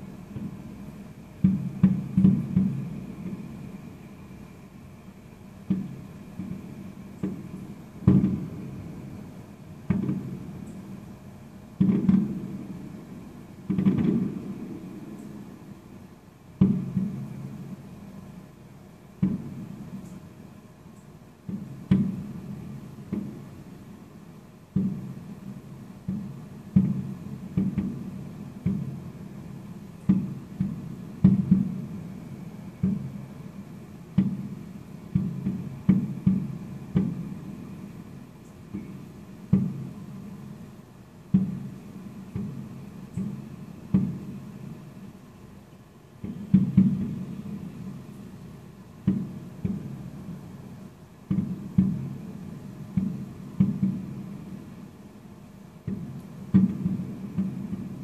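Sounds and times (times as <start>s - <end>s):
fireworks booming with echo: 1.4s - 4.2s, 5.6s - 15.7s, 16.6s - 18.2s, 19.1s - 20.0s, 21.4s - 23.6s, 24.8s - 40.6s, 41.4s - 44.8s, 46.2s - 48.1s, 49.0s - 54.9s, 56.0s - 58.0s.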